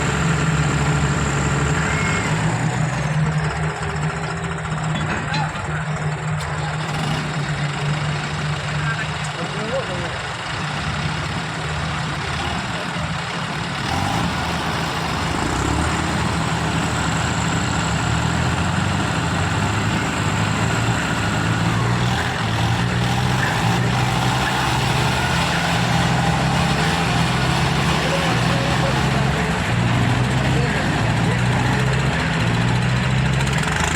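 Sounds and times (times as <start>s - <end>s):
diesel tractor engines running: 0.0s - 33.9s.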